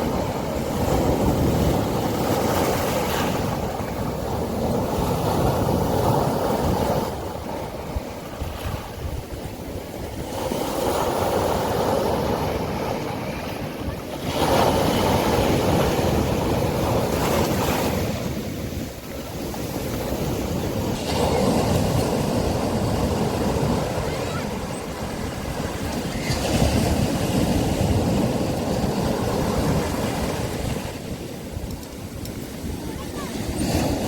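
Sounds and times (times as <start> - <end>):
sea waves breaking on a beach: 0.0 - 34.0.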